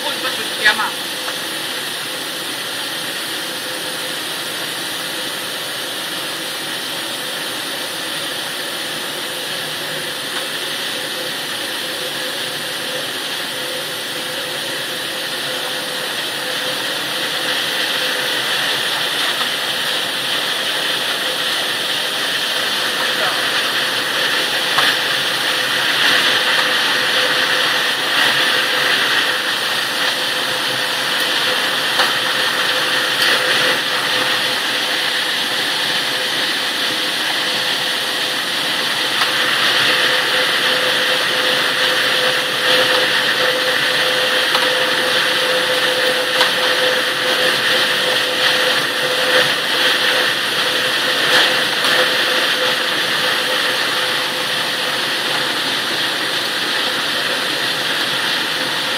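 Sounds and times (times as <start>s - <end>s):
machinery droning: 0.0s - 58.9s.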